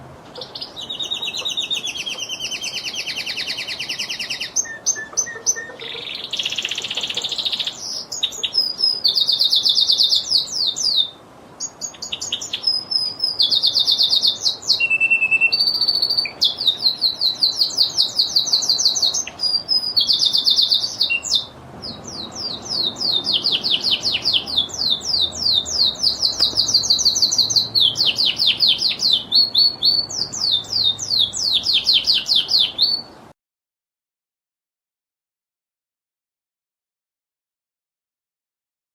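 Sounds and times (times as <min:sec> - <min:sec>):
canary singing trills: 0:00.3 - 0:33.2.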